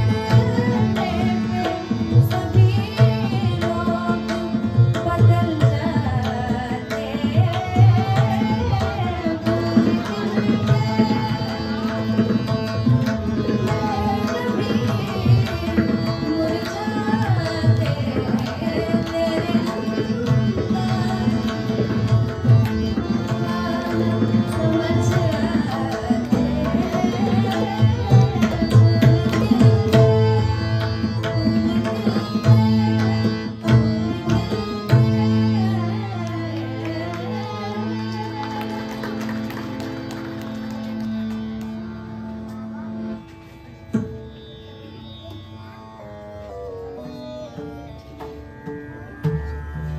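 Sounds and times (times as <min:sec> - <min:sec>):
keyboard accompaniment: 0:00.0 - 0:49.9
tabla rhythmic pattern: 0:00.0 - 0:49.9.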